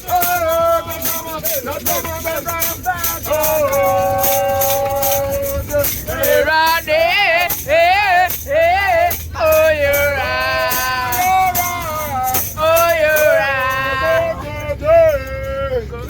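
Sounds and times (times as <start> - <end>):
shaker rhythm: 0.0 - 15.3
person singing with vibrato: 0.0 - 16.0.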